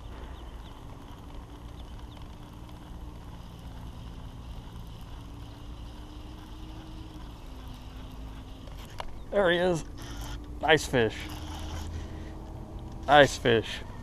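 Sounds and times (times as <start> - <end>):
fishing reel whirring: 0.0 - 14.0.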